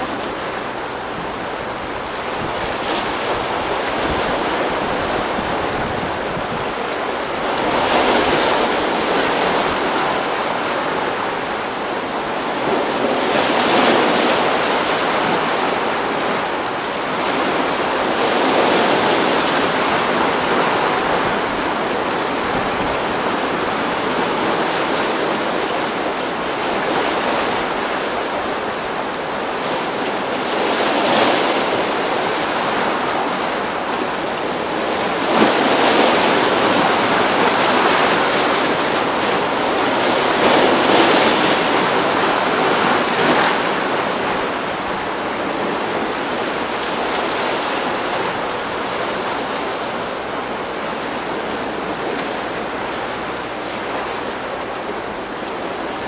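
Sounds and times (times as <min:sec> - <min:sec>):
churning surf: 0:00.0 - 0:56.0.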